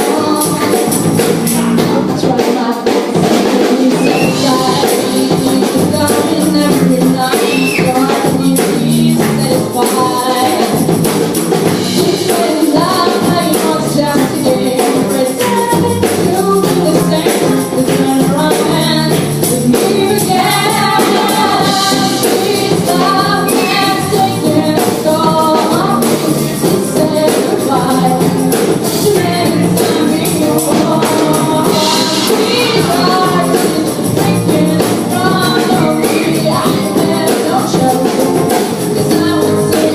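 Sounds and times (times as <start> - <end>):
person singing: 0.0 - 11.0, 11.8 - 39.9
live band playing: 0.0 - 39.9
percussion beat: 0.0 - 39.9.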